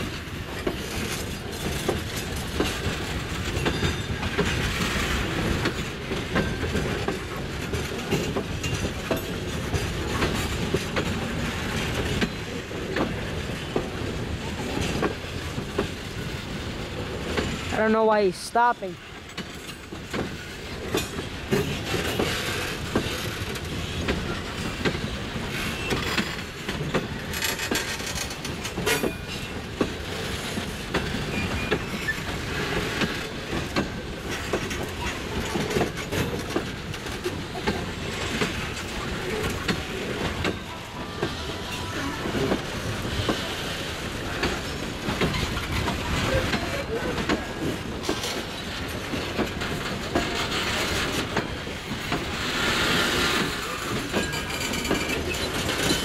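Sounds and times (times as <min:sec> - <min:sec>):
rumble of freight cars: 0:00.0 - 0:56.0
train wheels clicking over rail joints: 0:00.0 - 0:56.0.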